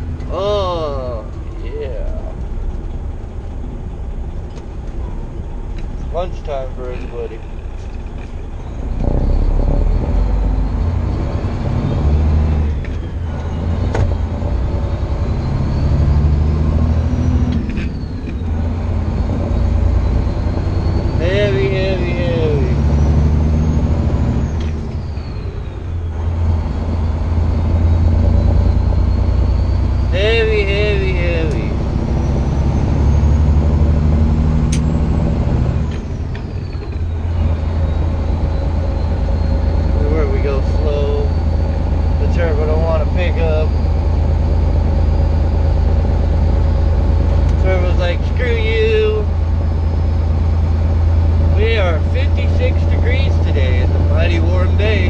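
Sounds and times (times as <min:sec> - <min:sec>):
truck diesel engine pulling uphill: 0:00.0 - 0:55.0.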